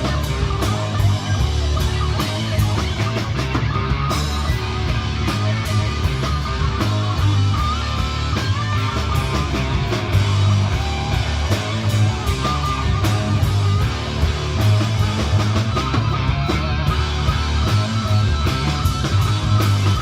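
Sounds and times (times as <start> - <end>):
rock music with guitar: 0.0 - 20.0.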